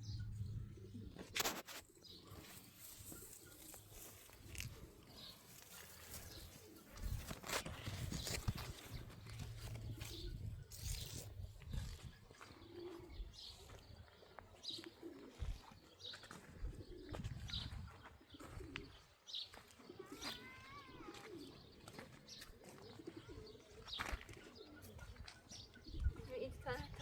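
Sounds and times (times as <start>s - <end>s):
bird cooing: 0.5s - 1.4s, 2.0s - 11.0s, 11.7s - 27.0s.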